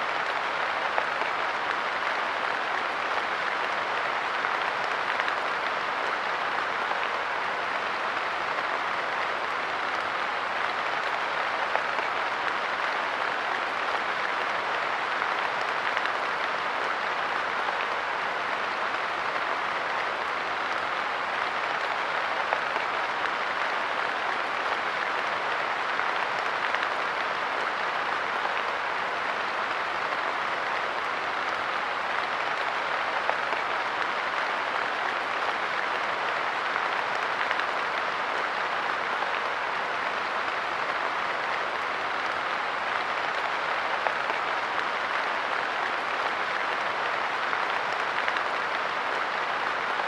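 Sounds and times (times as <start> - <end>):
light rain pattering: 0.0 - 50.0.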